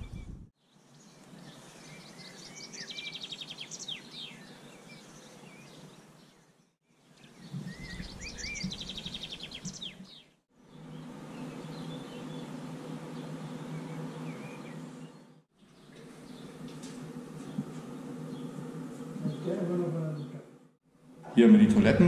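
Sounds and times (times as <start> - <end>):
songbird singing: 0.0 - 20.6
faint outdoor hiss: 0.0 - 22.0.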